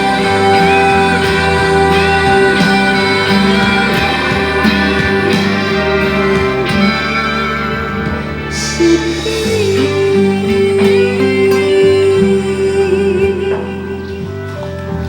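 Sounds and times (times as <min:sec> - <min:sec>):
long held chords: 0:00.0 - 0:15.0
plucked guitar notes: 0:00.0 - 0:15.0.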